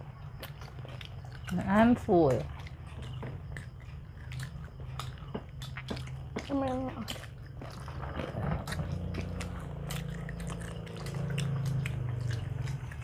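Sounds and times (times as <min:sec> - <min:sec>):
crunchy food chewing: 0:00.0 - 0:13.0.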